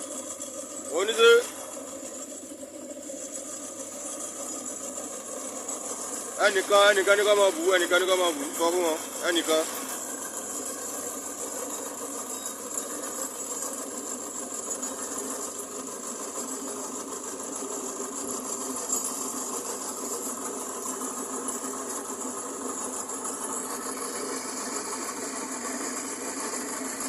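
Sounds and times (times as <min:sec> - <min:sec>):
machine engine running steadily: 0:00.0 - 0:27.0.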